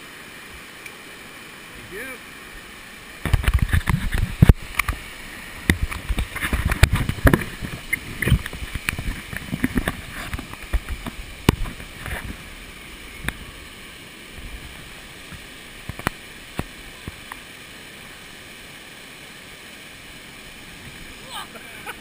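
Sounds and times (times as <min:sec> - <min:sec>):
rush of falling water: 0:00.0 - 0:22.0.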